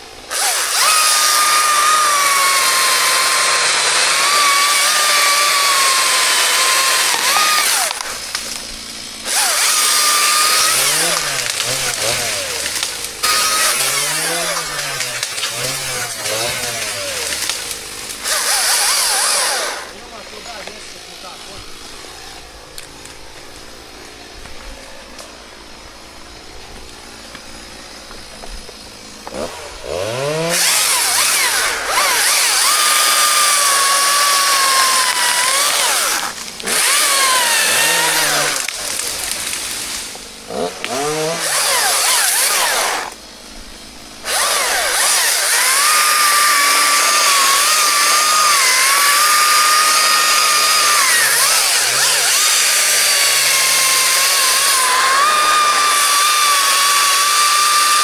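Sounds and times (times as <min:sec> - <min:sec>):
chainsaw cutting wood: 0:00.0 - 0:21.9, 0:26.8 - 0:58.0.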